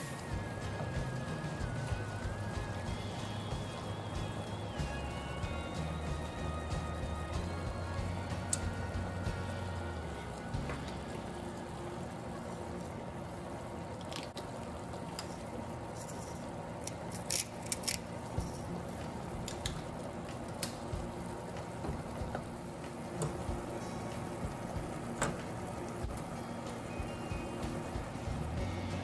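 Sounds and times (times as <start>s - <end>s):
chicken simmering in a saucepan: 0.0s - 29.0s.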